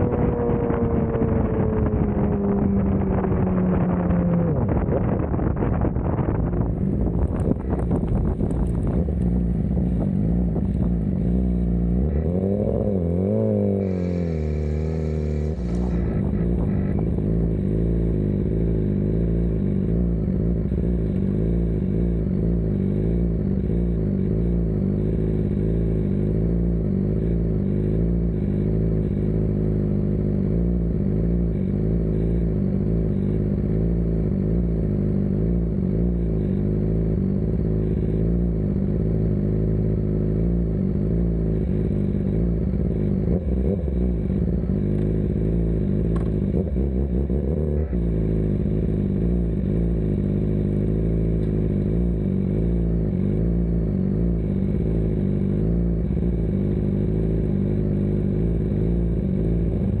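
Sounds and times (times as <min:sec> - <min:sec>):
motorcycle engine idling: 0:00.0 - 1:00.0.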